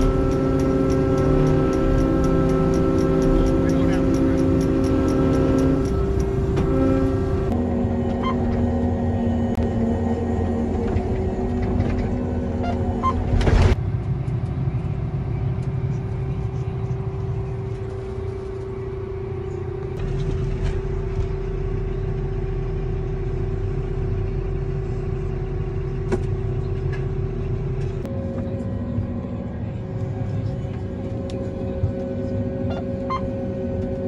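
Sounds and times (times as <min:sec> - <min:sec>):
combine harvester rumbling: 0:00.0 - 0:34.0.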